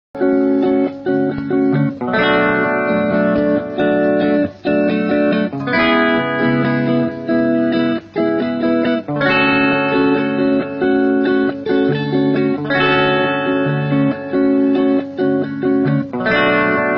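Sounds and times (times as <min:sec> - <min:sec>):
guitar chords with delay: 0:00.2 - 0:16.9.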